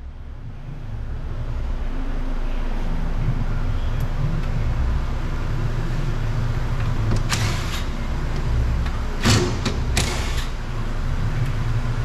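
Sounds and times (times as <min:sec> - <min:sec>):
low workshop rumble: 0:00.0 - 0:12.0.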